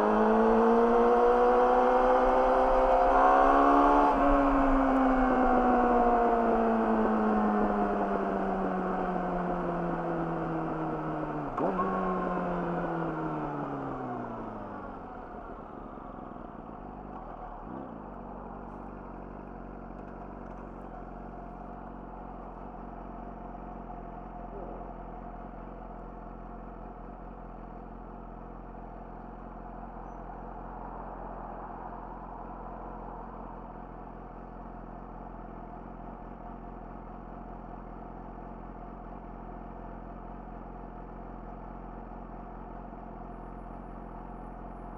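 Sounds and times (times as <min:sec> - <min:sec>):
motorcycle engine slowing and idling: 0:00.0 - 0:44.9.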